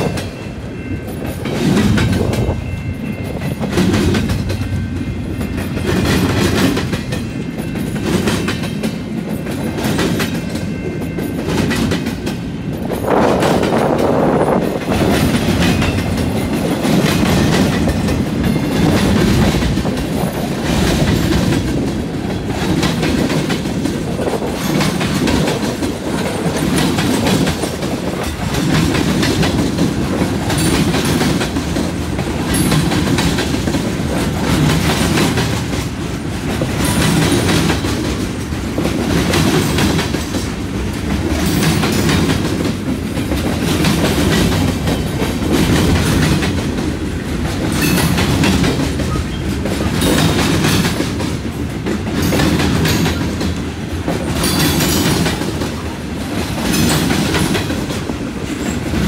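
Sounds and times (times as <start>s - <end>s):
freight train wheels rumbling: 0.0s - 59.0s
wheel clickety-clack: 0.0s - 59.0s.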